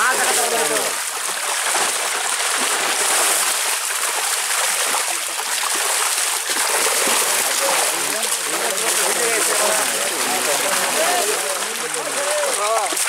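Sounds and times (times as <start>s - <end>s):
fish thrashing at surface: 0.0s - 13.0s
water splashing and churning: 0.0s - 13.0s.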